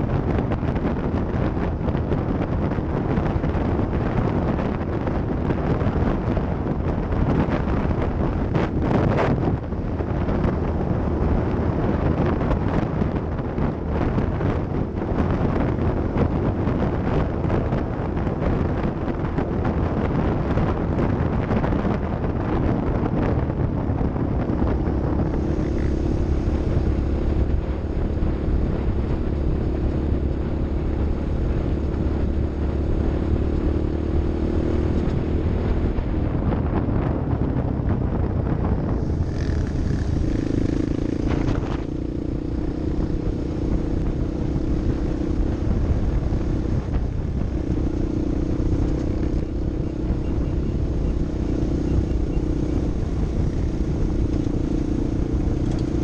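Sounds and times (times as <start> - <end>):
road noise: 0.0 - 56.0
vehicle engine rumble: 0.0 - 56.0
wind noise: 0.0 - 56.0.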